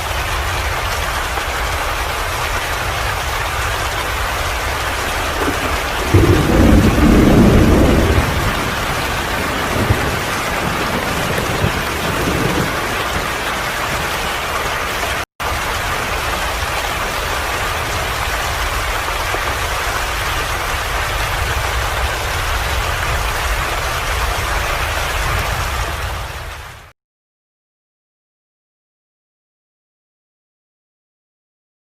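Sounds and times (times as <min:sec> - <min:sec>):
rain hiss: 0:00.0 - 0:26.9.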